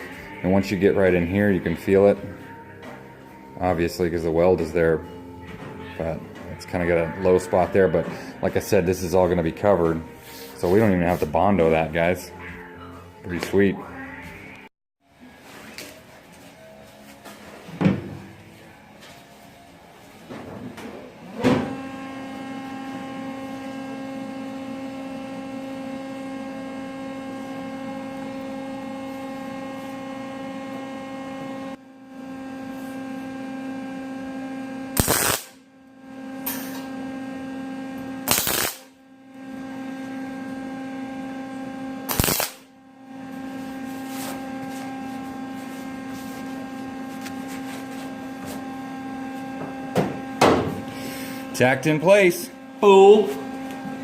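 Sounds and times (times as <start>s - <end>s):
electrical hum with buzz: 0.0s - 54.0s.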